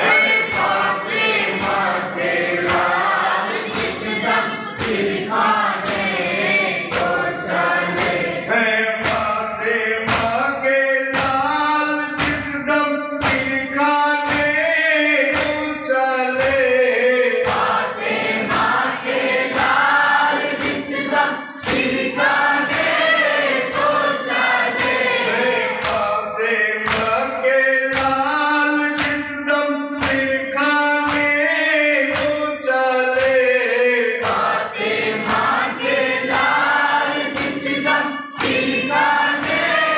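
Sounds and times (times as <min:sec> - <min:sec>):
men chanting in unison: 0:00.0 - 0:39.9.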